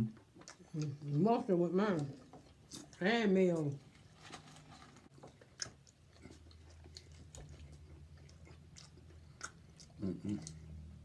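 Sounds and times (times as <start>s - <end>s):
close-up chewing: 0.2s - 10.9s.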